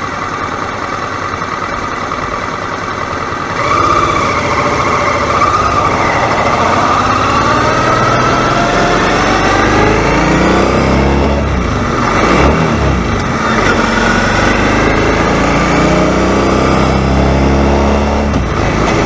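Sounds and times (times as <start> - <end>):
vehicle engine revving: 3.5 - 19.0.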